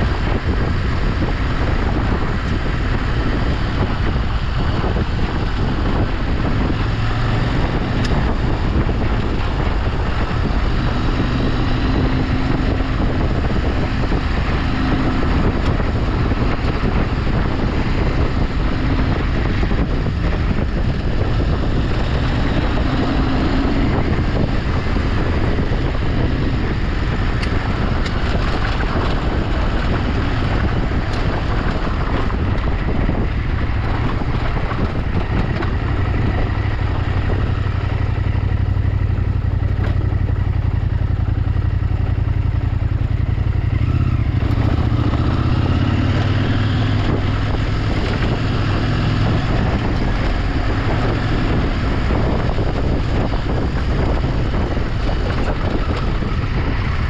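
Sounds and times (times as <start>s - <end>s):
vehicle engine running: 0.0s - 57.0s
wind noise on microphone: 0.0s - 57.0s.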